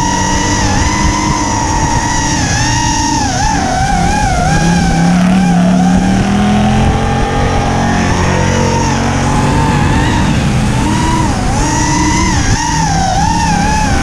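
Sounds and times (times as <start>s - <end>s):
drone motors whining: 0.0s - 14.0s
race car engines: 0.0s - 14.0s.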